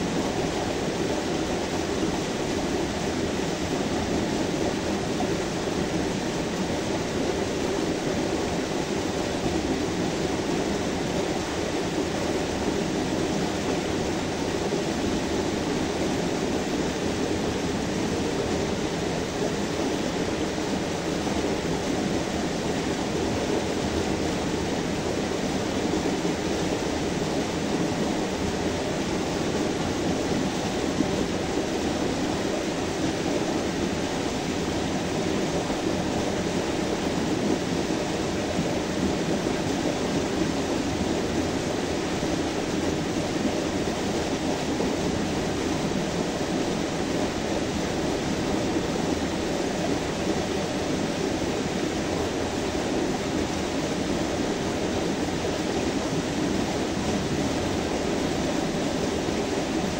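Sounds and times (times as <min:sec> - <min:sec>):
waterfall rushing over boulders: 0:00.0 - 0:59.9.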